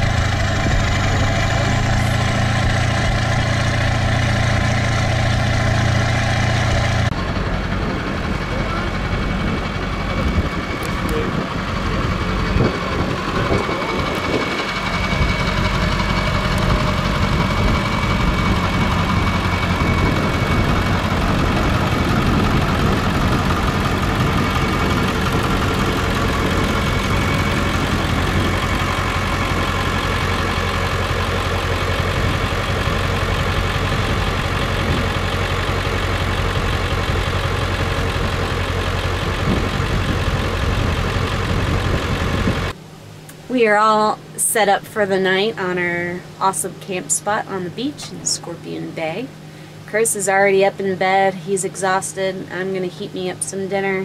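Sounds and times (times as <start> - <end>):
truck engine idling: 0.0 - 54.0.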